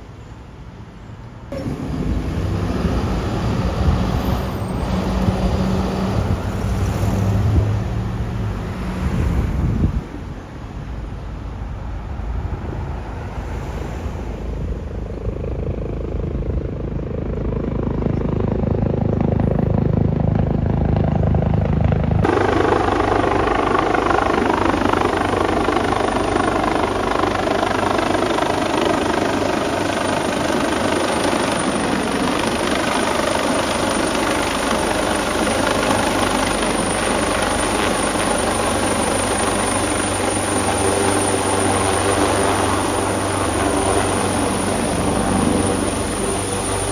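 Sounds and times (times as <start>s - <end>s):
helicopter rotor and engine: 1.0s - 8.8s, 14.4s - 46.9s.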